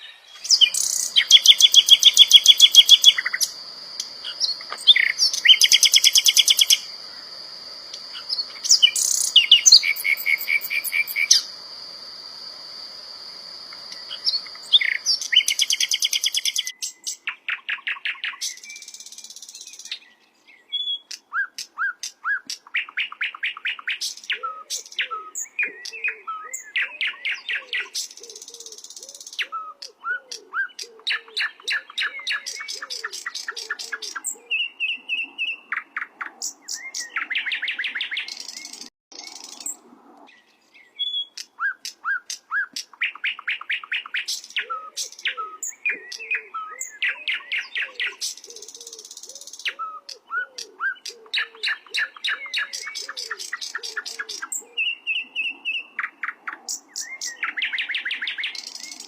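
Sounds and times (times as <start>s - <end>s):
bird singing high chirping trills: 0.0s - 11.6s, 13.7s - 59.0s.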